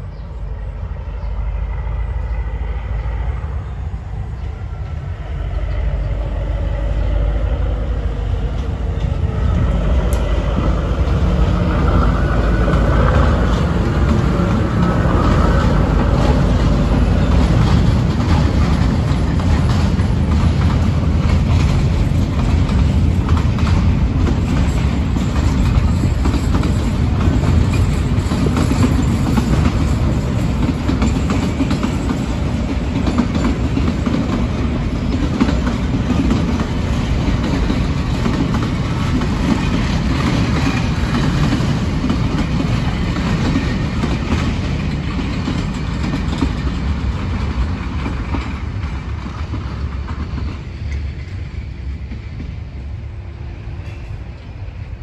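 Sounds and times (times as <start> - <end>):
freight train rumbling past: 0.0 - 55.0
wheels clattering over rails: 8.2 - 52.6.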